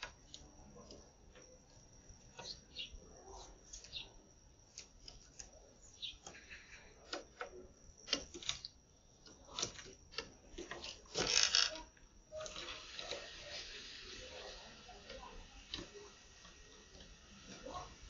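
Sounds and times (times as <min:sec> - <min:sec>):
doves pecking on hard floor: 0:00.0 - 0:18.0.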